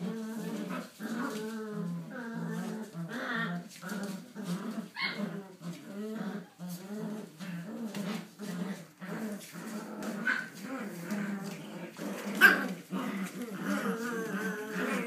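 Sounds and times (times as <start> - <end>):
dogs play-growling: 0.0 - 15.0.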